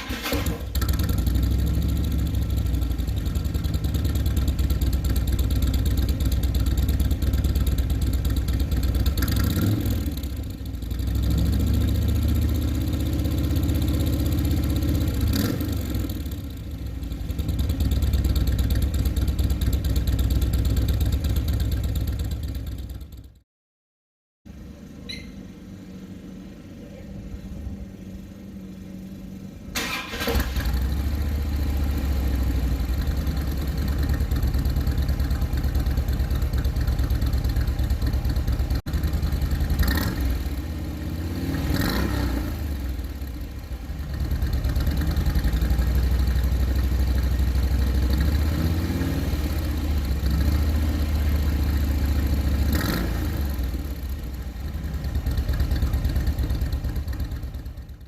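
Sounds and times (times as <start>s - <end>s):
motorcycle engine running: 0.0s - 23.4s, 24.5s - 58.0s.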